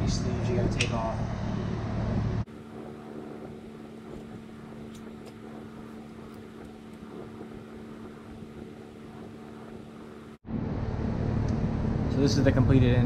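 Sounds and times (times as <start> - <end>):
steady motor hum: 0.0 - 13.0.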